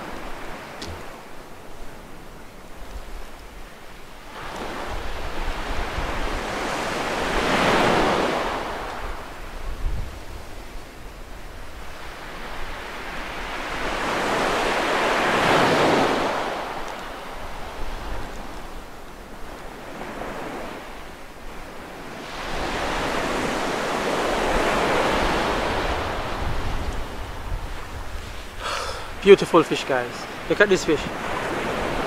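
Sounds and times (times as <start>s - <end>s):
waves breaking on beach: 0.0s - 32.0s
wind buffeting microphone: 0.0s - 32.0s.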